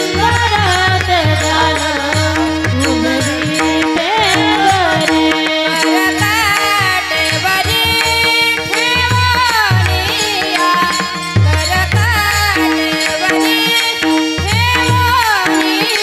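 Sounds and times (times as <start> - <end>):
harmonium held tone: 0.0 - 16.0
woman singing devotional song: 0.0 - 16.0.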